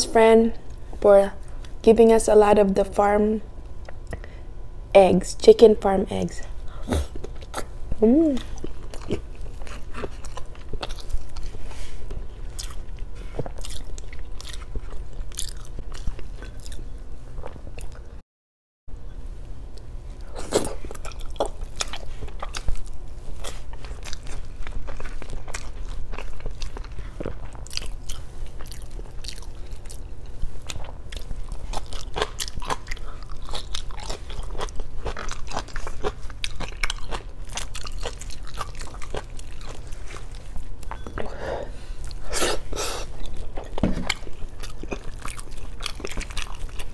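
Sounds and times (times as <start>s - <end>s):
steady low hum: 0.0s - 18.2s, 18.9s - 46.9s
person chewing and biting food: 6.8s - 18.1s, 19.8s - 41.4s, 42.0s - 46.9s.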